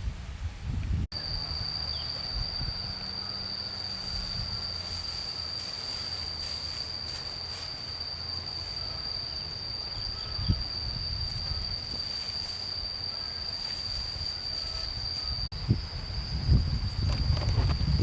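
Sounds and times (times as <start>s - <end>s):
insect calling high tone: 1.1s - 18.0s.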